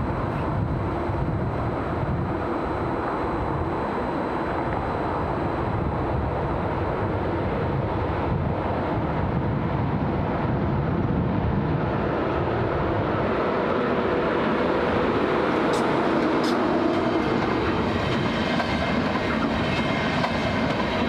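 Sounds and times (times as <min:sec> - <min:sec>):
high-speed train rumbling: 0:00.0 - 0:21.0.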